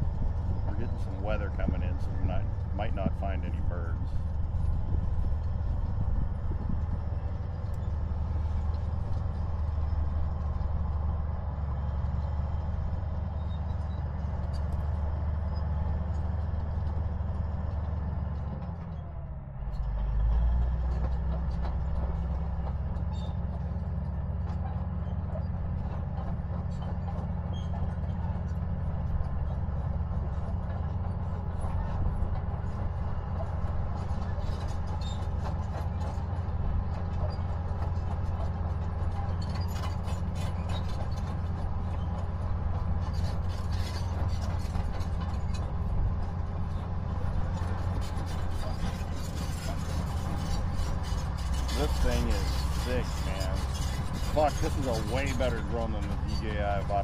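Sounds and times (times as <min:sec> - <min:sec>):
bulldozer diesel engine rumble: 0:00.0 - 0:57.0.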